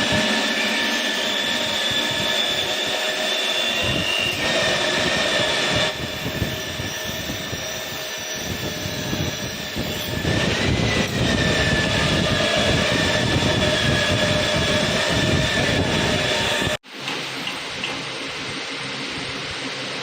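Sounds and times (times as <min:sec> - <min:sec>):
drilling machine motor whine: 0:00.0 - 0:16.8.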